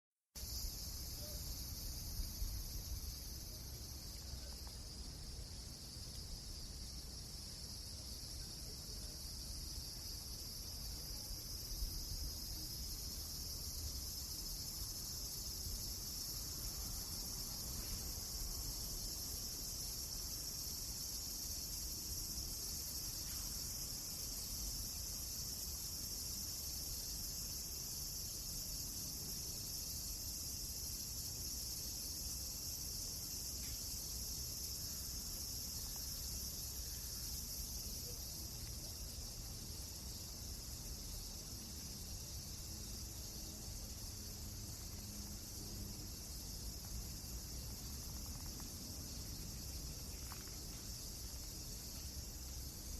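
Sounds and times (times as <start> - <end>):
crickets chirping: 0.4 - 52.9.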